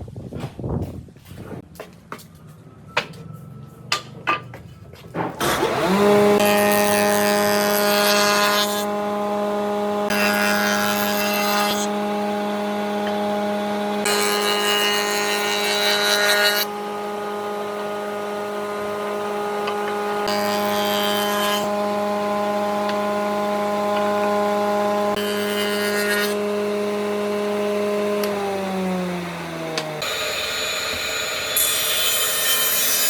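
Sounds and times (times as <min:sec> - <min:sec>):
power tool humming: 0:05.4 - 0:33.0.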